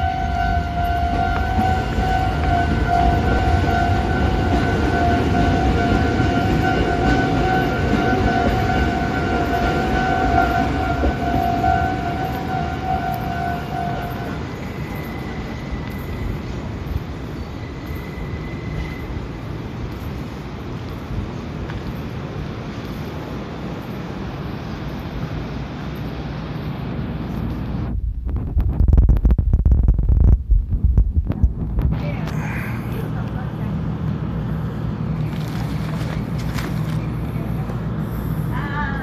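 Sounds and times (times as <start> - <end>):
train running hum: 0.0 - 39.0.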